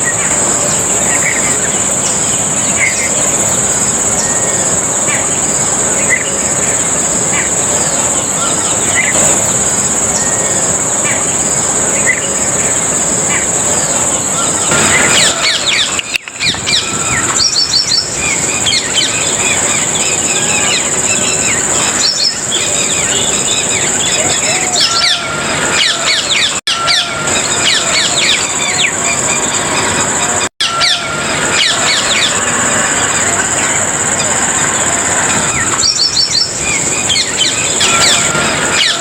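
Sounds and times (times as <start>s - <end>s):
high insect drone: 0.0s - 39.0s
small birds chirping: 0.0s - 39.0s.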